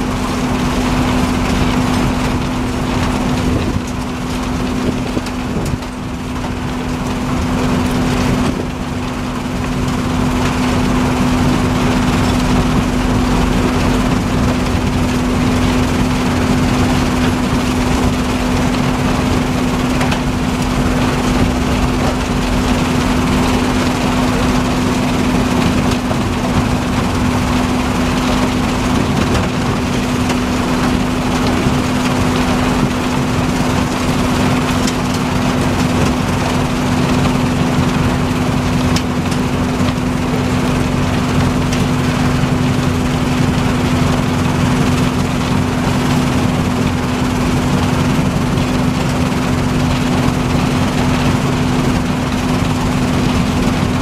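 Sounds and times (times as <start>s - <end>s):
impact crusher machine drone: 0.0s - 54.0s.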